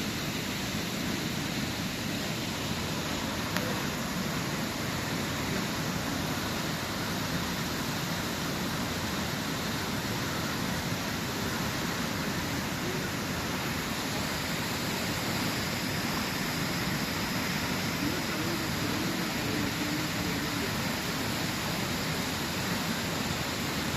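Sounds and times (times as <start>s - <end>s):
waterfall roaring: 0.0s - 23.9s.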